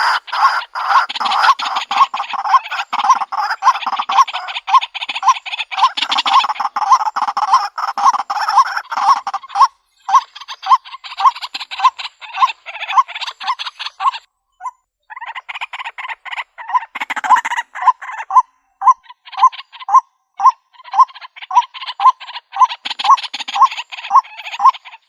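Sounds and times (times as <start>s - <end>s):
waterhen calling: 0.0s - 14.3s, 15.1s - 25.0s.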